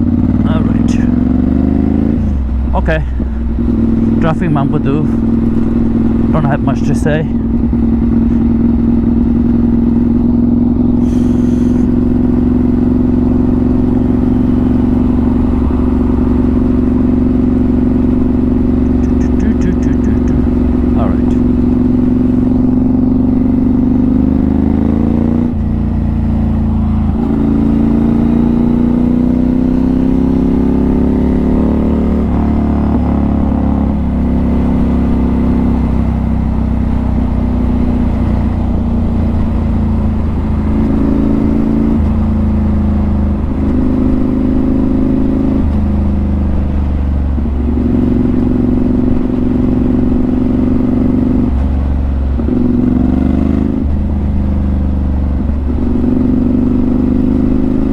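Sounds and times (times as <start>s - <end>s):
motorcycle engine shifting gears: 0.0s - 57.9s.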